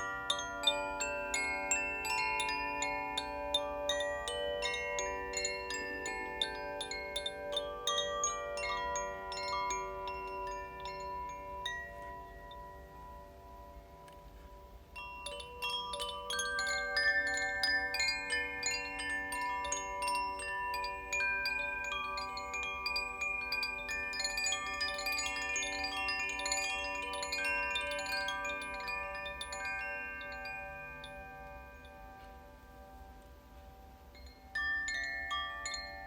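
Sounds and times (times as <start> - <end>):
wind chimes ringing: 0.0 - 36.0.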